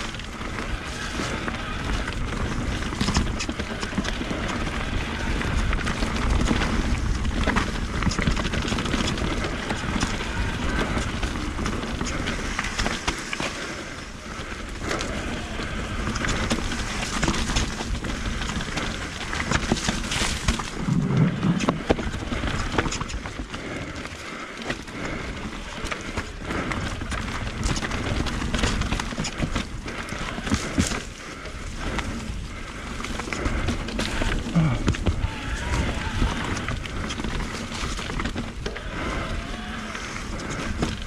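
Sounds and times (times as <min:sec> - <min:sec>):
bike frame rattles and knocks: 0:00.0 - 0:39.2, 0:40.0 - 0:41.0
tyres crunching over dirt: 0:00.0 - 0:41.0.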